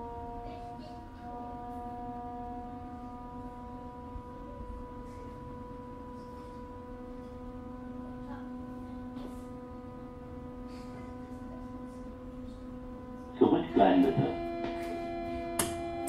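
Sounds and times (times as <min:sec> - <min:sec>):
electrical hum of power converter: 0:00.0 - 0:16.0.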